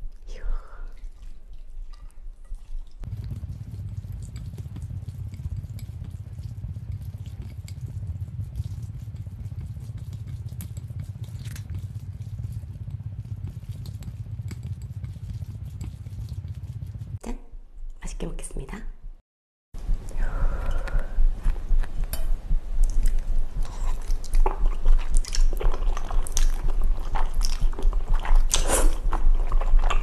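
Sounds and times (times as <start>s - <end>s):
low rumble: 0.0s - 18.0s, 19.8s - 30.0s
chopsticks squelching noodles in sauce: 0.9s - 17.2s, 21.7s - 30.0s.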